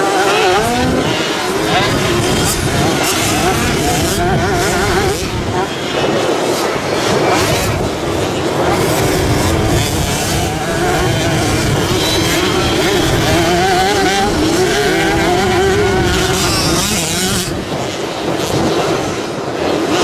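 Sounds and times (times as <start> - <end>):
motocross engines revving: 0.0 - 20.0.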